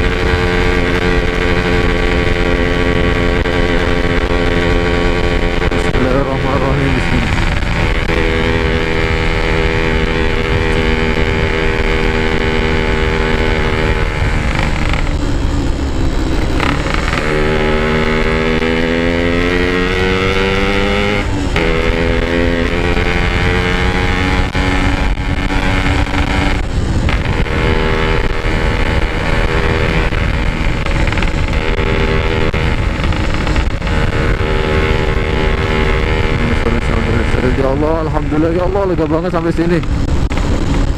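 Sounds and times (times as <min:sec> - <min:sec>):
two-stroke motorcycle accelerating: 0:00.0 - 0:40.9.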